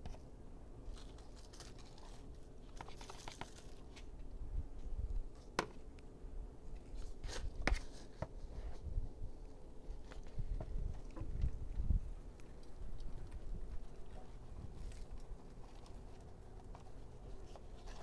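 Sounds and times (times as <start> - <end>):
compost rustling: 0.0 - 18.0.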